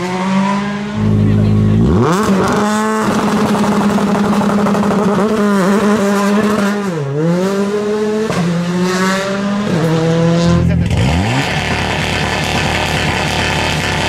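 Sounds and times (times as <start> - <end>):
rally car engine revving high: 0.0 - 14.0.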